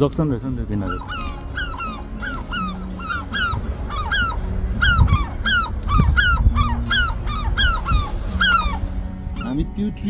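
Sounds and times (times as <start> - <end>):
gulls calling: 0.3 - 9.8
wind rumble on microphone: 1.8 - 10.0.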